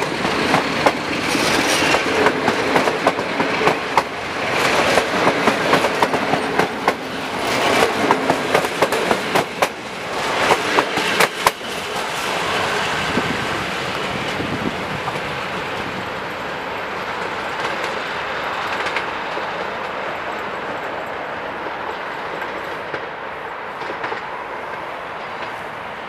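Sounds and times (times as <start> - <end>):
train wheels clacking on rail joints: 0.0 - 25.7
train rumble: 0.0 - 26.0.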